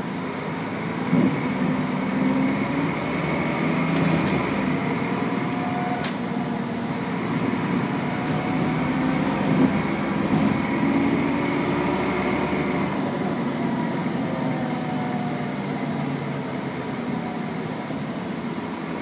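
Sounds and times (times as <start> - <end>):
bus engine and road drone: 0.0 - 19.0.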